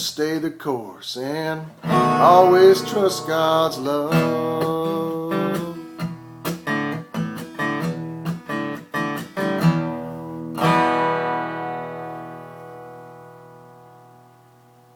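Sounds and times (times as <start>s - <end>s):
acoustic guitar strumming: 1.3s - 14.9s.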